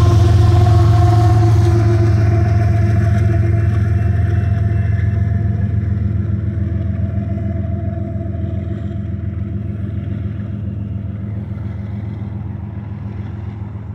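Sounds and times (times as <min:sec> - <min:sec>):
diesel locomotives droning: 0:00.0 - 0:13.9.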